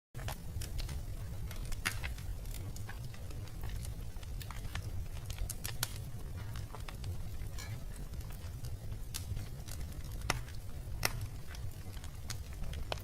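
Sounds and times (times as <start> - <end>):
fire snaps and pops: 0.2 - 13.0
low steady fire rumble: 0.2 - 13.0.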